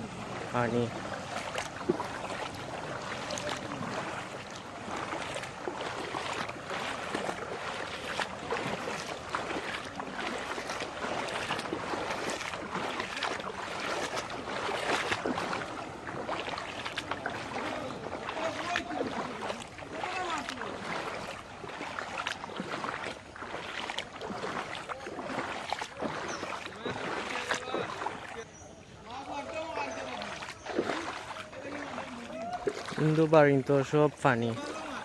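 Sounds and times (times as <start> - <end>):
floodwater splashing and lapping: 0.0 - 35.0.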